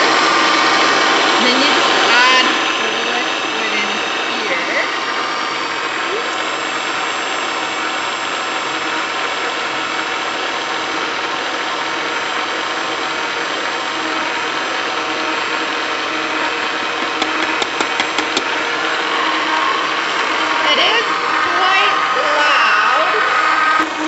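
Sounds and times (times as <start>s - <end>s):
pasta maker motor running: 0.0s - 24.0s.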